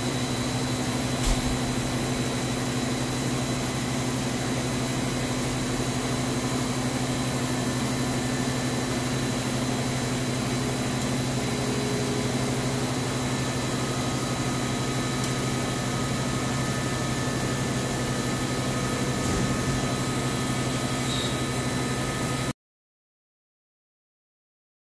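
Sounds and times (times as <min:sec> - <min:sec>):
machine low hum with hiss: 0:00.0 - 0:22.5.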